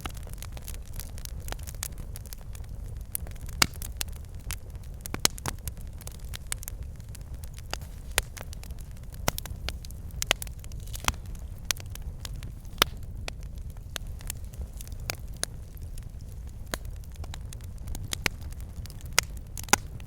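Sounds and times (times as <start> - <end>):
logs crackling and popping: 0.0 - 20.0
wood fire burning: 0.0 - 20.0.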